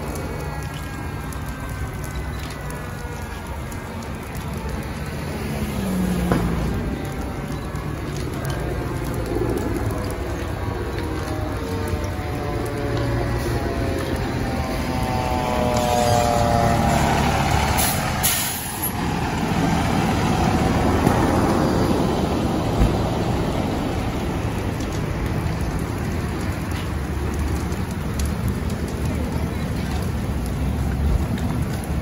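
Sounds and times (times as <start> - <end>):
fire crackling: 0.0 - 32.0
fire engine running: 0.0 - 32.0.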